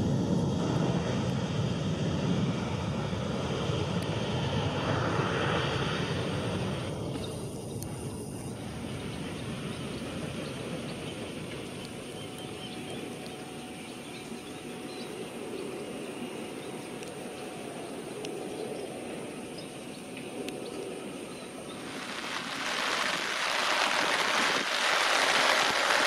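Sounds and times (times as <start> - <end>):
jet engines roaring at takeoff: 0.0 - 26.0.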